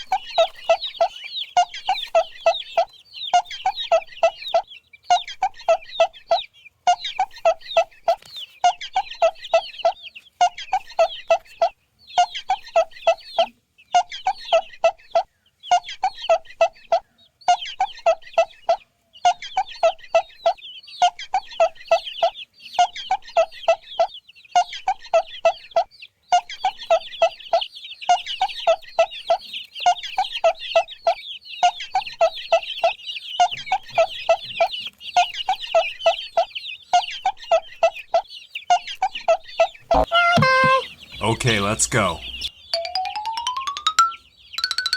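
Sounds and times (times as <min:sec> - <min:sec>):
chickens clucking: 0:00.0 - 0:44.6.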